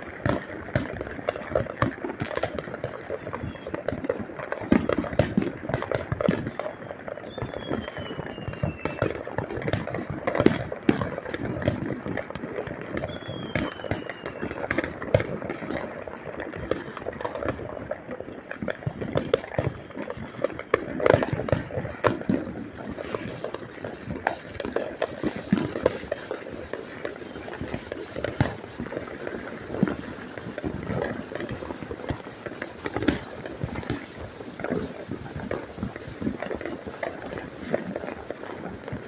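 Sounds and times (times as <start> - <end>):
fireworks bangs: 0.0 - 39.0
fireworks crackling pops: 0.0 - 39.0.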